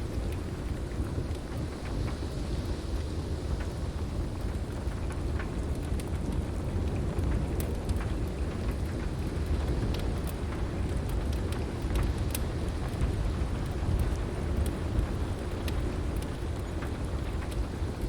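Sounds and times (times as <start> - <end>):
deep storm rumble: 0.0 - 18.0
wood fire crackling and popping: 0.0 - 18.0.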